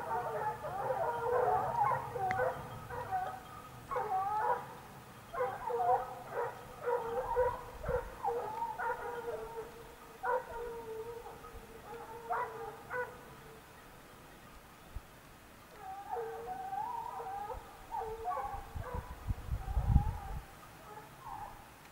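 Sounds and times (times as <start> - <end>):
hounds baying: 0.0 - 14.0, 15.7 - 21.8.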